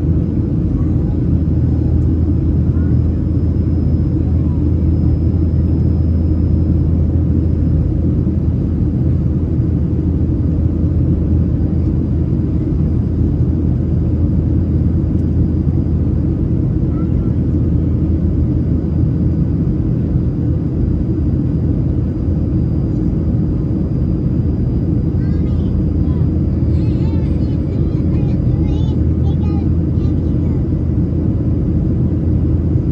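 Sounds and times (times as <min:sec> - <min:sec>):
airplane cabin engine roar: 0:00.0 - 0:32.9.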